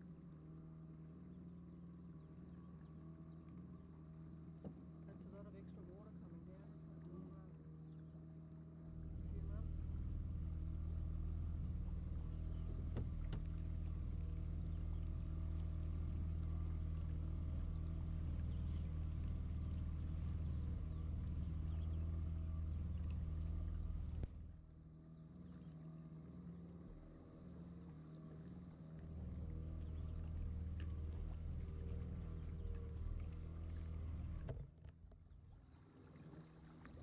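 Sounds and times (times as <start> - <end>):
boat engine running: 0.0 - 37.0.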